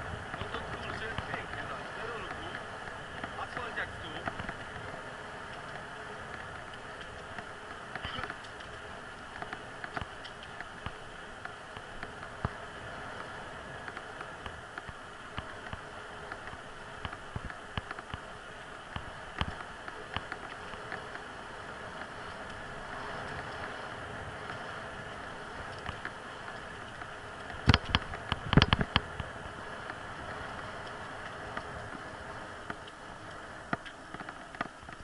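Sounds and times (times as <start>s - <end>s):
bicycle tyres rushing on asphalt: 0.0s - 35.0s
small clicks and rattles: 0.2s - 35.0s.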